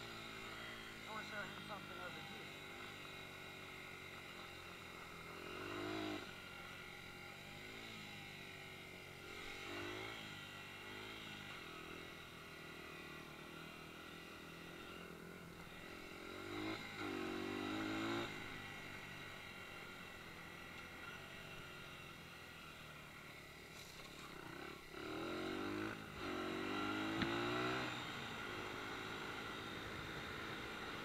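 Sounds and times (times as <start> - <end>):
dirt bike engine revving: 0.0 - 21.9, 23.2 - 31.0.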